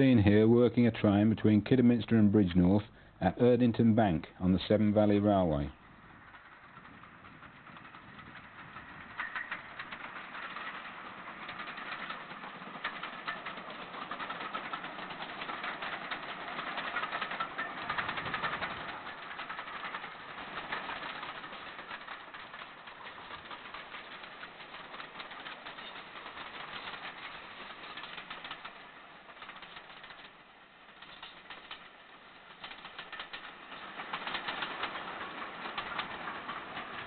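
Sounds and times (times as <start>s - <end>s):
steam locomotive exhaust beats: 0.0s - 37.0s.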